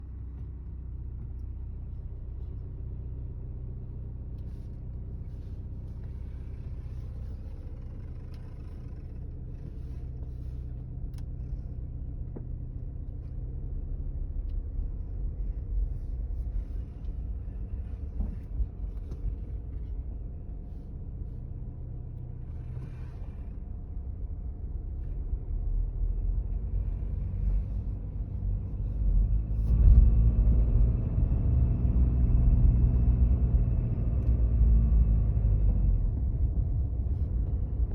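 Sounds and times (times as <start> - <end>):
diesel engine rumble: 0.0 - 37.9.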